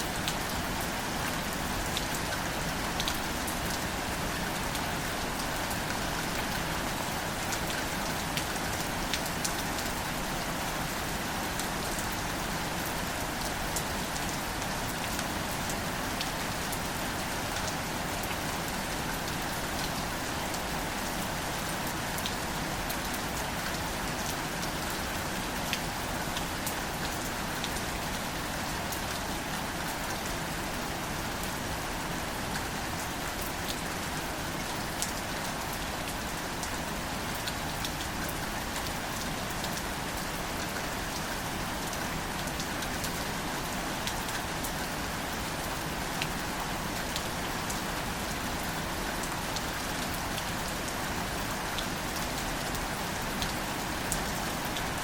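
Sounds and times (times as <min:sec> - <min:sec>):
rain hissing on leaves: 0:00.0 - 0:55.0.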